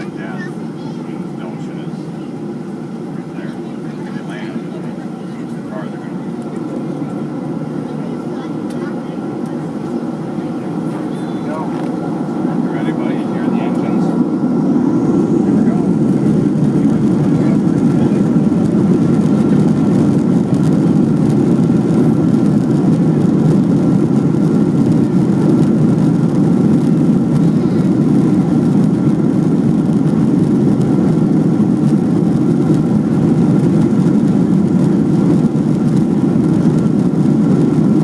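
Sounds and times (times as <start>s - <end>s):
jet engines roaring in cabin: 0.0s - 38.0s.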